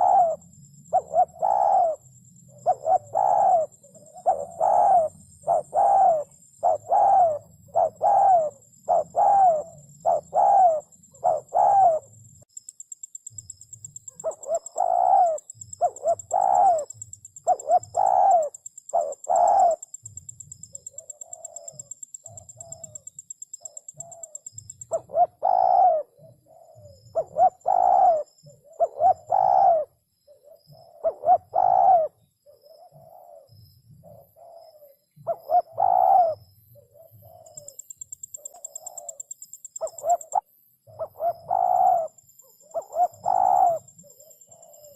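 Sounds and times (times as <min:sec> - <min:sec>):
dove cooing: 0:00.0 - 0:12.2, 0:13.9 - 0:44.9.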